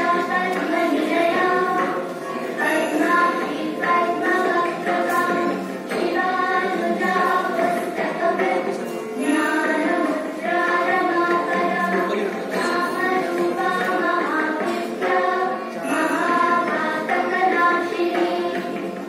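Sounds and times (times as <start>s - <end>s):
slow sung melody: 0.0s - 19.0s.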